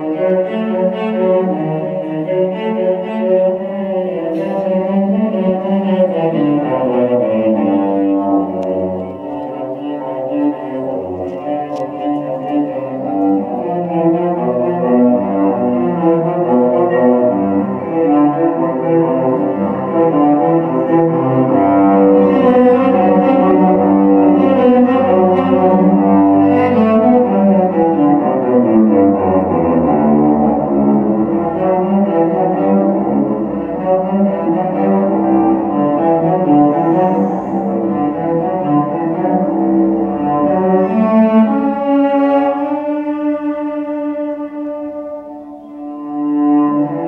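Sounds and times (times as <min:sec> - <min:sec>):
cello ensemble playing: 0:00.0 - 0:47.0.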